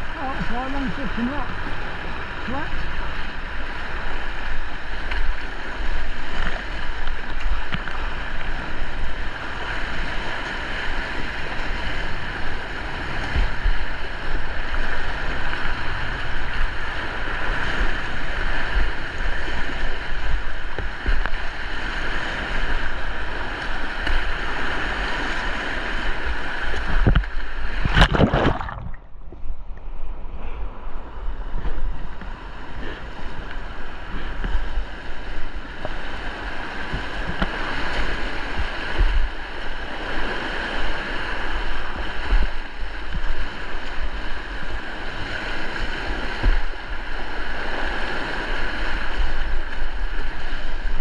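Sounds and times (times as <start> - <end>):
rushing river water: 0.0 - 29.1, 30.1 - 51.0.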